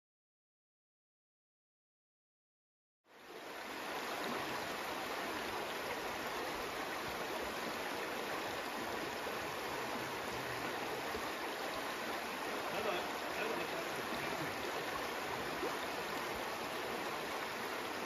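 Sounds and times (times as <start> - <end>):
water rushing over rocks: 3.2 - 18.0.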